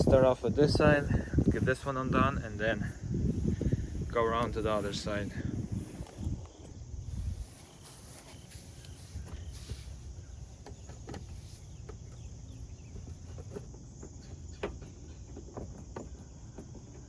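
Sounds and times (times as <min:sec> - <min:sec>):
low steady rumble: 0:00.0 - 0:13.8.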